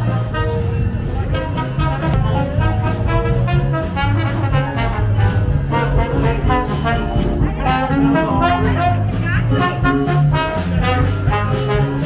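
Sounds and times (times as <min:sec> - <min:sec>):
low bass notes: 0:00.0 - 0:12.0
steady drum beat: 0:00.0 - 0:12.0
trombone: 0:00.0 - 0:12.0
trumpet: 0:00.0 - 0:12.0.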